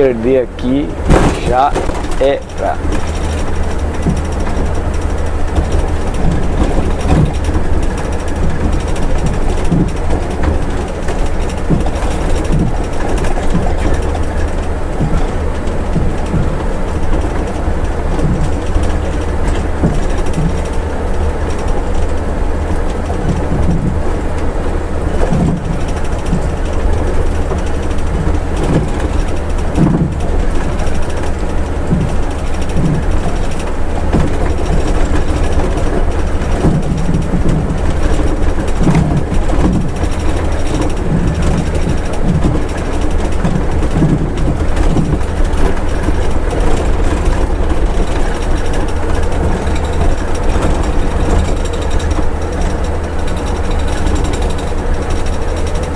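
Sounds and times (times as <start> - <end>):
cab knocks and rattles: 0.0 - 55.9
diesel engine rumble: 0.0 - 55.9.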